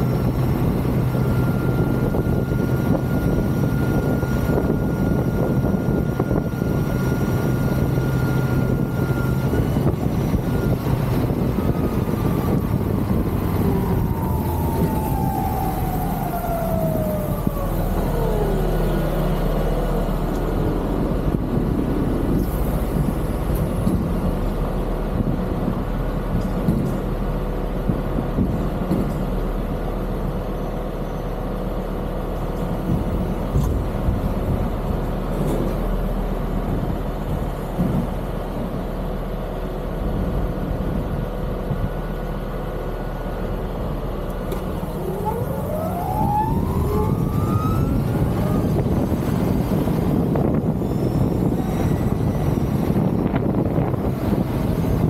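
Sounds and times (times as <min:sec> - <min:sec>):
truck idling: 0:00.0 - 0:55.0.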